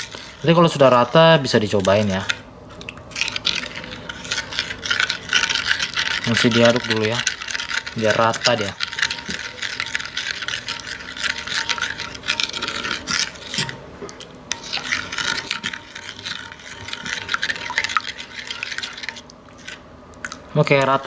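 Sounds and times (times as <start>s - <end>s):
spoon scraping a ceramic bowl: 0.0s - 2.5s, 3.1s - 13.8s, 14.5s - 19.8s.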